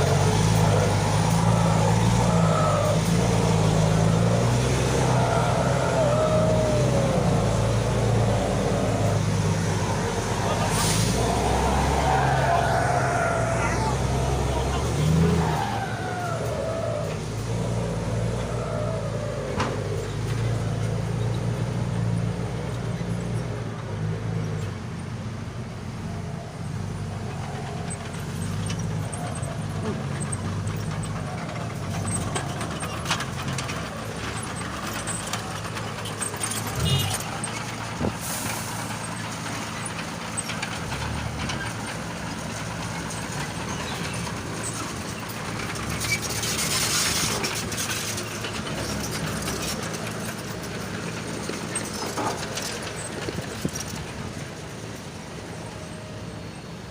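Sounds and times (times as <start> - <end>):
engine droning through loud exhaust: 0.0 - 56.9.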